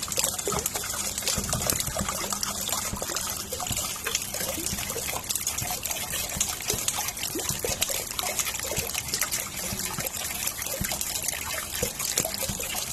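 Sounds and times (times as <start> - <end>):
raindrops splashing and ticking: 0.0 - 12.9.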